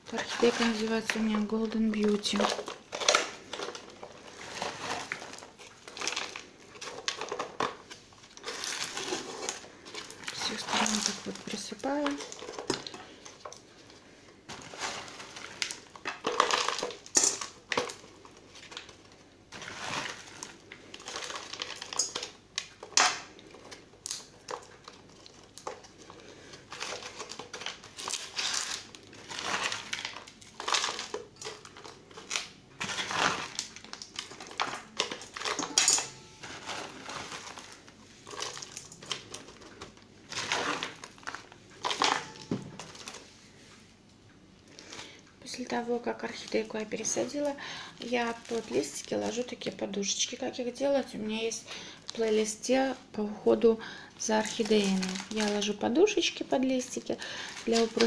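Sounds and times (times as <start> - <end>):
thin plastic crinkling: 0.0 - 58.0
bark chunks crunching and rustling: 0.1 - 43.8, 44.7 - 49.9, 54.2 - 58.0.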